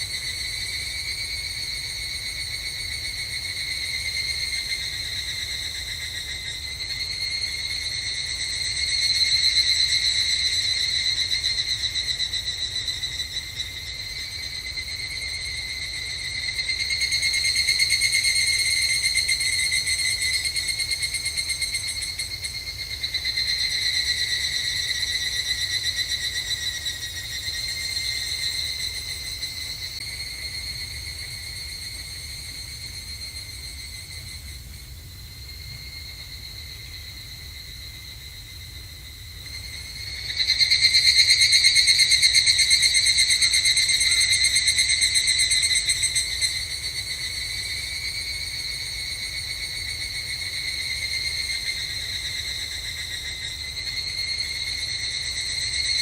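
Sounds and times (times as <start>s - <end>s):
cicadas calling in pulsing trills: 0.0s - 56.0s.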